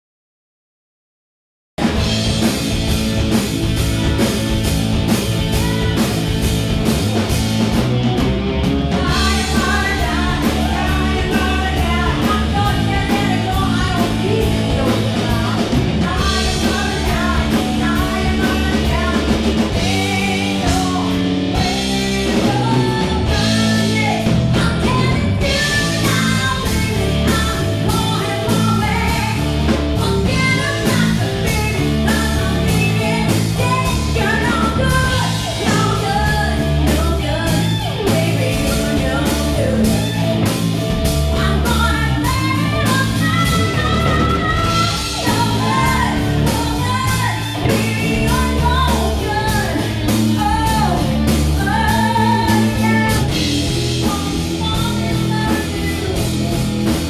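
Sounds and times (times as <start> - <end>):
bass guitar: 1.8 - 57.0
drum kit: 1.8 - 57.0
electric guitar: 1.8 - 57.0
woman singing: 5.4 - 6.4, 8.9 - 57.0.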